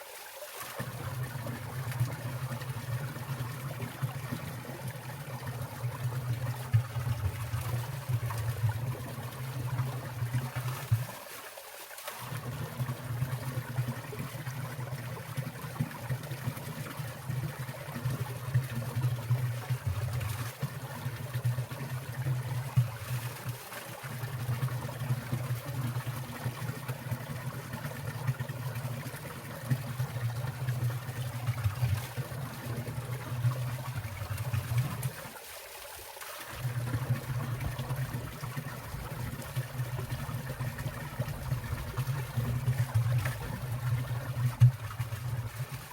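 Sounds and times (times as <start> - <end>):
stream trickling and splashing: 0.0 - 45.9.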